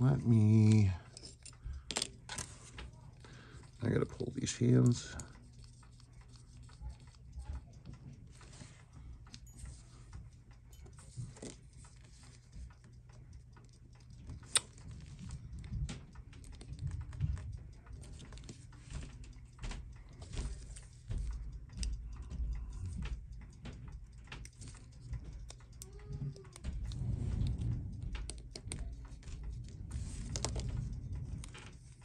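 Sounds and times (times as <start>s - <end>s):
clicks and taps on watch: 0.0s - 32.0s.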